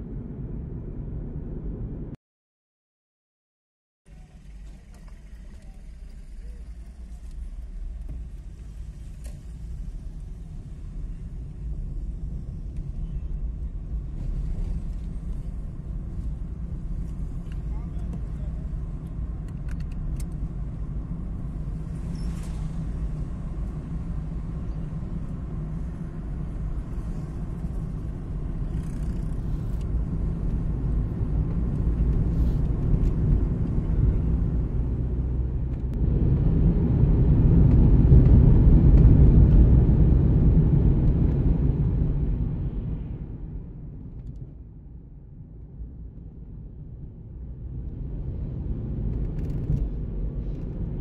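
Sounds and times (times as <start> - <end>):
car engine and tyre rumble: 0.0 - 2.2, 4.1 - 51.0.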